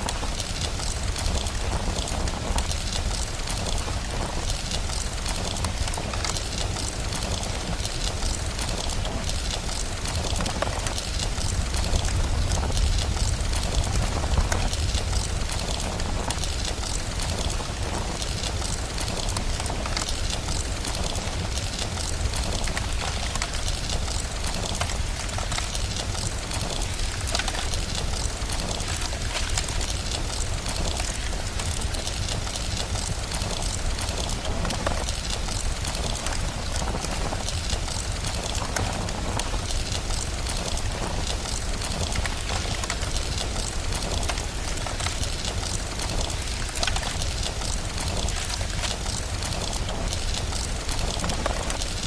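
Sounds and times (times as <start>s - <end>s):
small crackles: 0.0s - 52.0s
steady rain: 0.0s - 52.0s.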